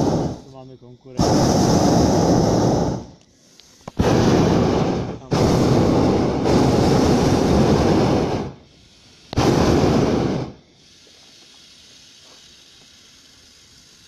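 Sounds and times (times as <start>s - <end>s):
propane burner roaring: 0.0s - 0.6s, 1.2s - 13.8s.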